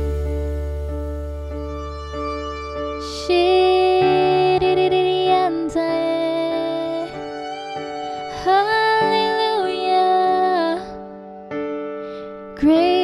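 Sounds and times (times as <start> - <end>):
sliding melody of held notes: 0.0 - 11.8.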